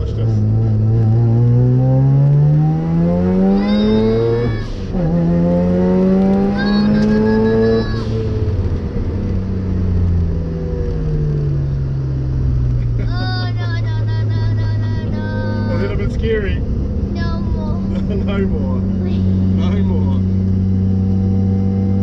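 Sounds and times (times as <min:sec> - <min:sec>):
race car engine accelerating: 0:00.0 - 0:13.0, 0:14.0 - 0:22.0.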